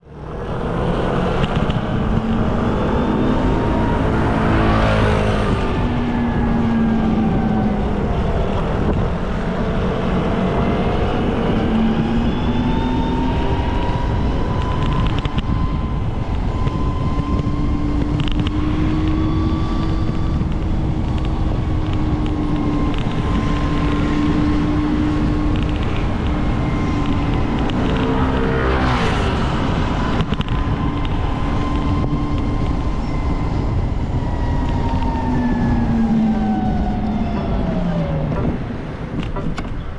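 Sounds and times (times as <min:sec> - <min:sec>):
vehicle passing close by: 0:00.0 - 0:14.2, 0:18.5 - 0:39.1
road traffic noise: 0:00.0 - 0:39.9.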